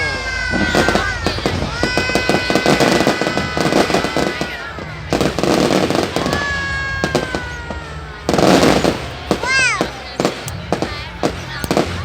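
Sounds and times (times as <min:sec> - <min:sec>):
fireworks crackling and popping: 0:00.0 - 0:12.0
fireworks whistling: 0:00.0 - 0:12.0.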